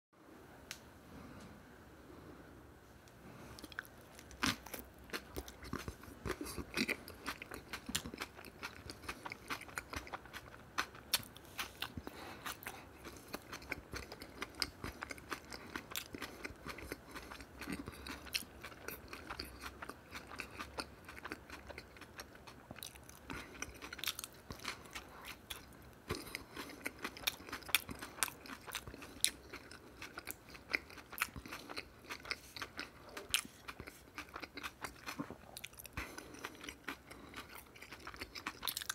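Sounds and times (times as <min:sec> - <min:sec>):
man chewing crunchy food: 0:03.4 - 0:38.9.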